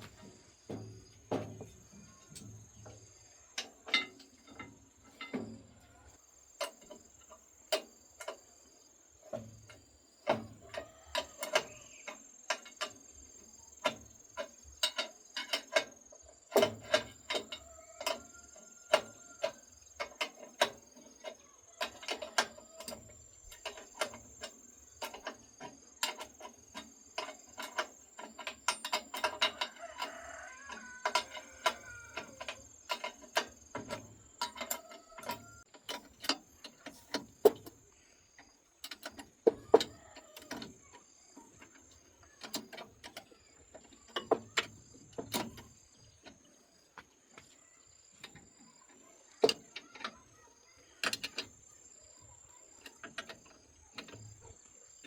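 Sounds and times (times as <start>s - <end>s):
tools clicking on metal parts: 0.0s - 55.0s.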